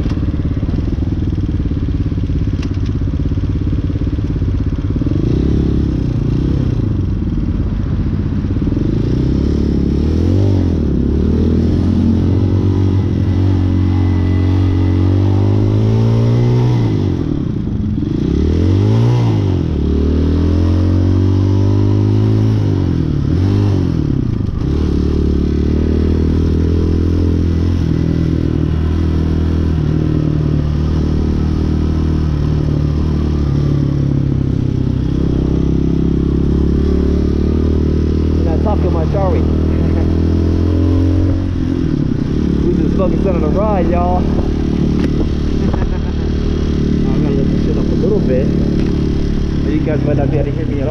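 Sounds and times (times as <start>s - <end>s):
dirt bike engine revving: 8.5s - 50.9s.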